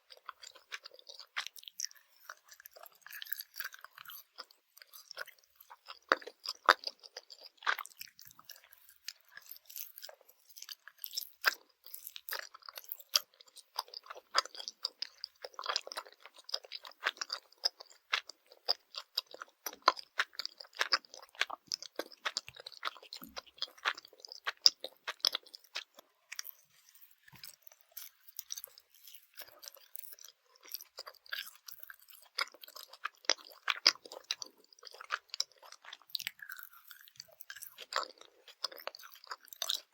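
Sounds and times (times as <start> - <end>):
gummy candy being chewed: 0.0 - 39.9.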